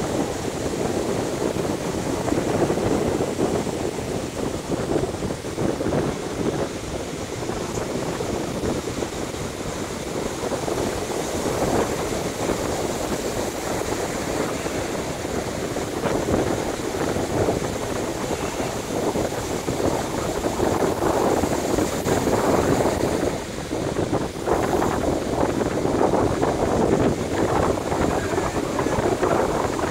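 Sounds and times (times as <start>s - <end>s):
surf breaking on beach: 0.0s - 29.9s
wind buffeting microphone: 0.0s - 29.9s.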